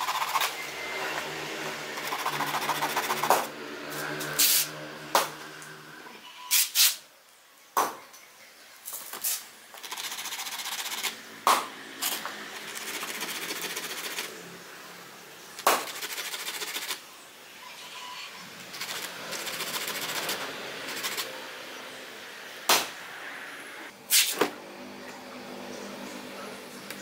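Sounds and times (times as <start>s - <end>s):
steady mechanical hum: 0.0s - 6.4s, 7.1s - 27.0s.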